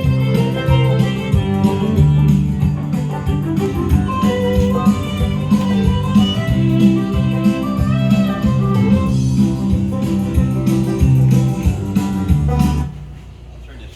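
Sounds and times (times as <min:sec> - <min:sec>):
live band playing: 0:00.0 - 0:13.0
guitar: 0:00.0 - 0:13.6.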